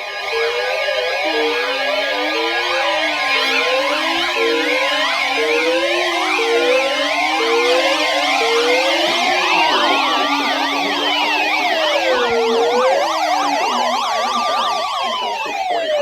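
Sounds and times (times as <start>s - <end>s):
wailing siren: 0.0s - 16.0s
yelping sirens warbling: 0.0s - 16.0s.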